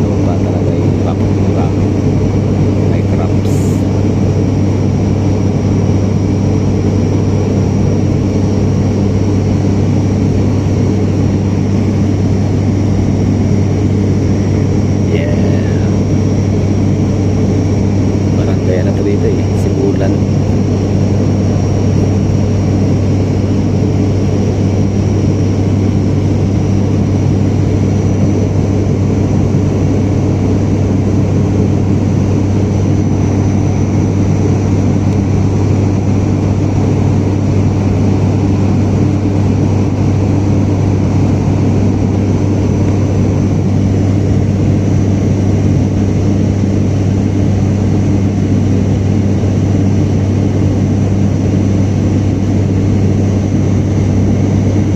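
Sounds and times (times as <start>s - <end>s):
airliner cabin engine drone: 0.0s - 54.9s.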